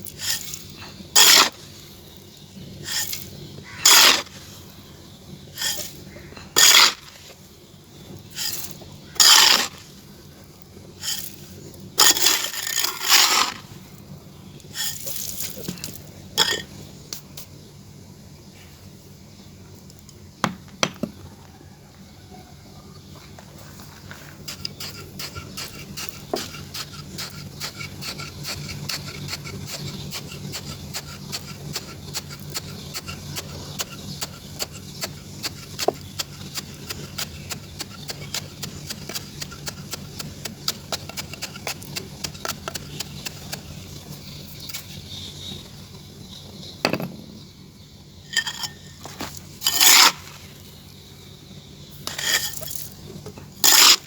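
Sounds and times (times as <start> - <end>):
sand scraping rubs: 0.0 - 13.9, 14.6 - 17.5, 23.1 - 46.7, 48.3 - 54.0
gritty sand crackling: 0.0 - 17.5, 23.1 - 46.7, 47.4 - 54.0.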